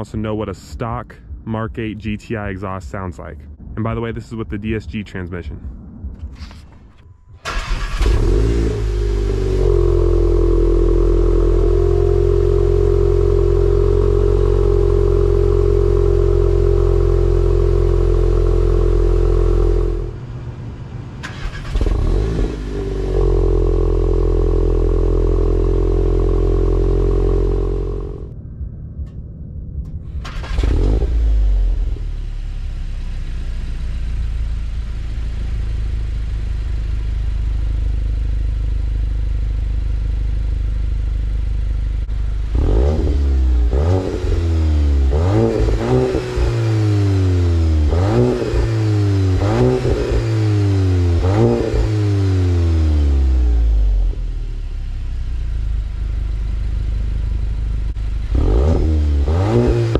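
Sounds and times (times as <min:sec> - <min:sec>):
car engine idling: 0:00.0 - 0:59.9
car engine revving: 0:00.0 - 0:59.9
car engine starting: 0:00.0 - 0:59.9.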